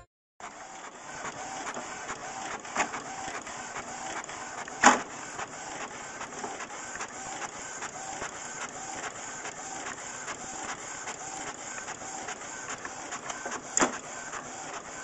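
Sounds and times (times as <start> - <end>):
printer whirring and clicking: 0.4 - 15.0.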